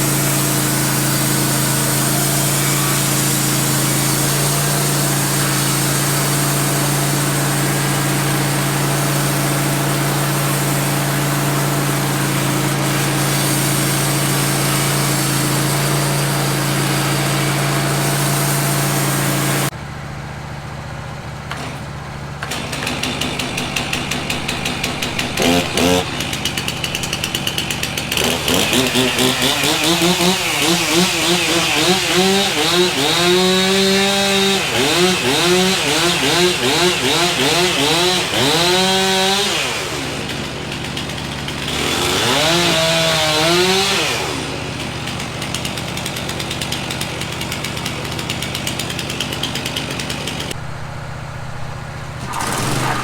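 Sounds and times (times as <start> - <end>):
band sawmill engine hum: 0.0 - 53.0.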